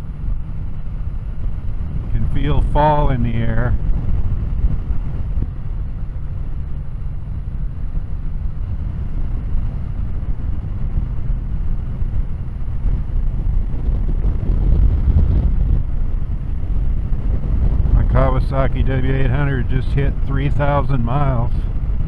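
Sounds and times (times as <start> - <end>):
motorcycle engine rumble: 0.0 - 22.0
wind on microphone: 0.0 - 22.0.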